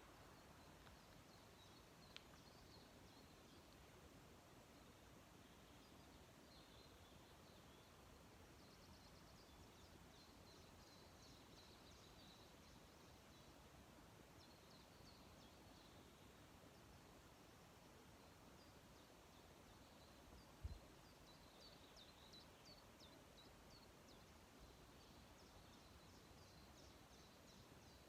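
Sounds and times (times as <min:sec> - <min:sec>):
faint bird chirps and trills: 0:00.0 - 0:28.0.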